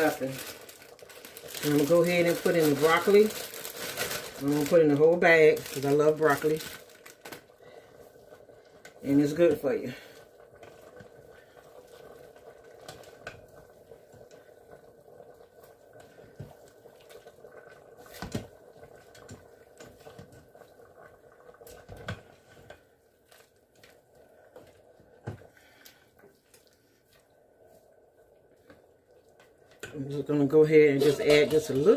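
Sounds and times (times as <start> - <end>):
broth simmering faintly: 0.0 - 31.9.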